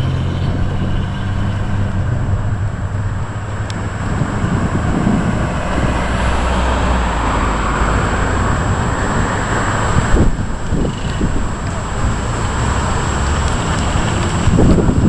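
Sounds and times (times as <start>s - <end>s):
thunder rumbling: 0.0s - 12.4s.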